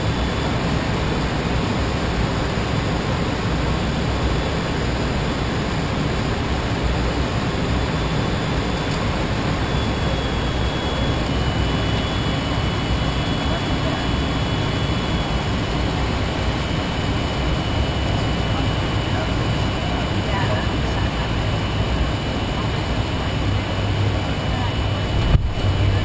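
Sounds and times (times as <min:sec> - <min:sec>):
airflow and jet engines rushing: 0:00.0 - 0:26.0.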